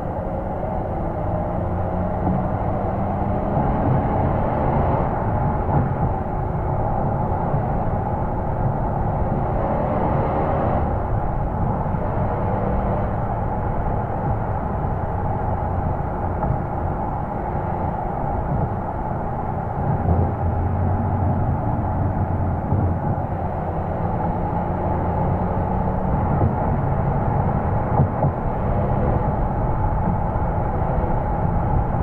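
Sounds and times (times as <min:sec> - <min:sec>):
car exhaust while driving: 0:00.0 - 0:32.0
wind and road noise: 0:00.0 - 0:32.0.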